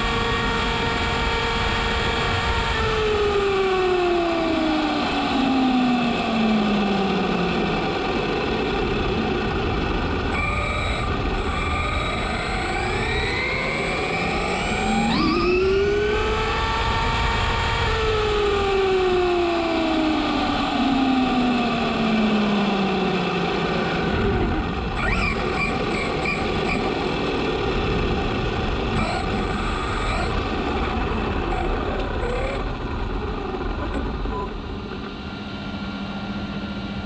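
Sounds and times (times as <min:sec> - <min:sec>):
electric motor whine: 0:00.0 - 0:37.0.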